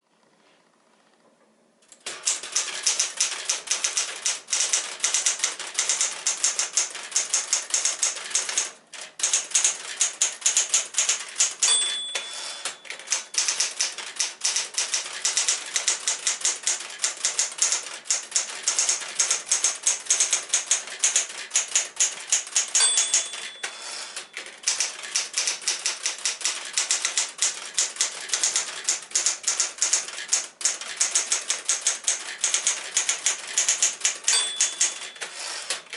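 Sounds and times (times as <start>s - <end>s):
typewriter keys clacking: 1.9s - 35.9s
typewriter margin bell: 2.0s - 35.9s.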